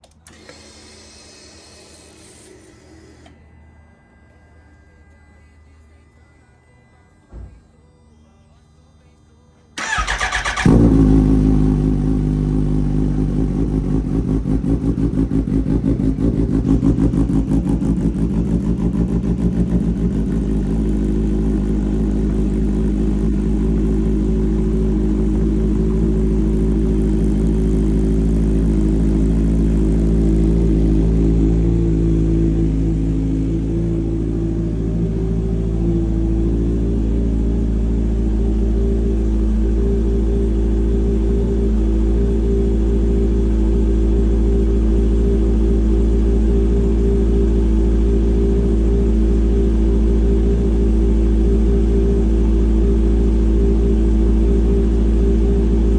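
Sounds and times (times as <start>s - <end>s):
motorcycle engine starting and idling: 0.0s - 3.3s, 9.8s - 55.9s.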